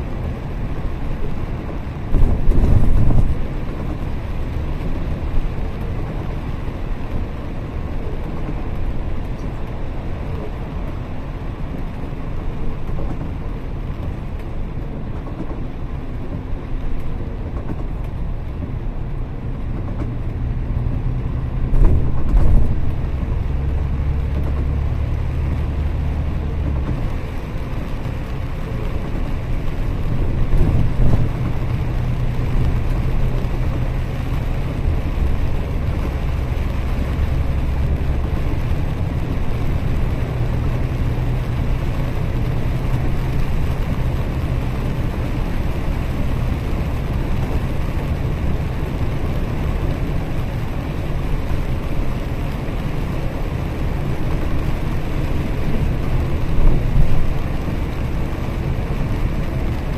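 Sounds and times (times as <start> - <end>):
bus engine drone: 0.0 - 59.9
tyre and road noise: 0.0 - 59.9.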